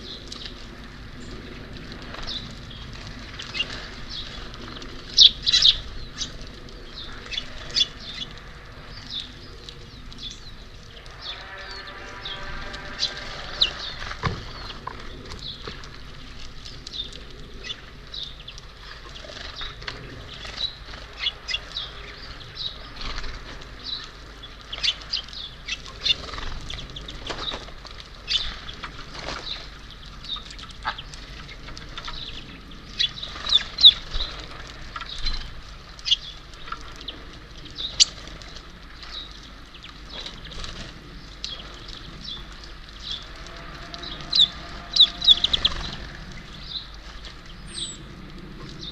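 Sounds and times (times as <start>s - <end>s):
wings fluttering: 0.0s - 48.9s
small birds chirping: 1.2s - 48.9s.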